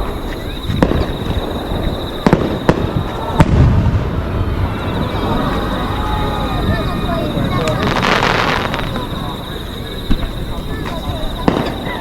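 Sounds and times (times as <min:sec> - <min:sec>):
fireworks bangs: 0:00.0 - 0:12.0
low rolling rumble: 0:00.8 - 0:10.8.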